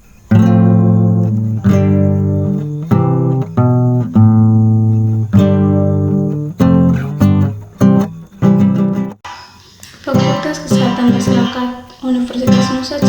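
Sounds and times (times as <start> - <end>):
guitar chords ringing: 0.0 - 9.2, 10.1 - 13.0.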